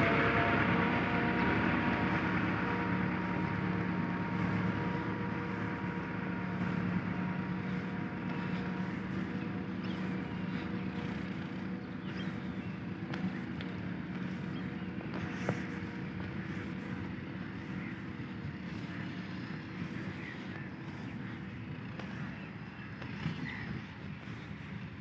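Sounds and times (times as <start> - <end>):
faint engine whine: 0.0 - 25.0
tractor diesel engine running: 0.0 - 25.0.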